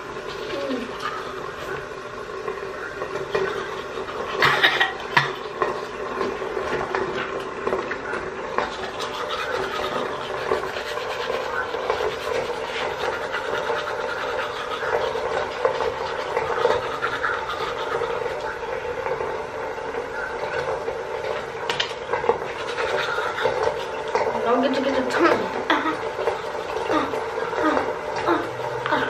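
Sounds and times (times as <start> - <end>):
toothbrush scrubbing teeth: 0.0 - 1.9, 2.6 - 19.2, 20.4 - 29.0.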